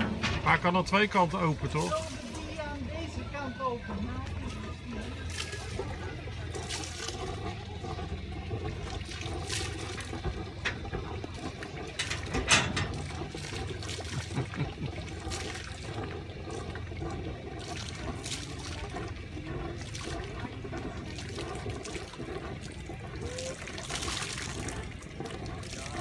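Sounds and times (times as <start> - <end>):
low steady rumble: 0.0 - 26.0
small waves lapping and splashing: 1.2 - 26.0.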